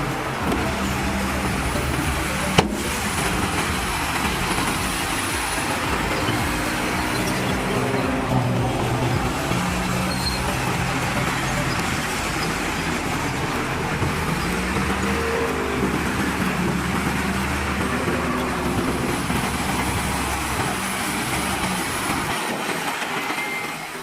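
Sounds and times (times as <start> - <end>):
heavy diesel machines rumbling: 0.0 - 24.0.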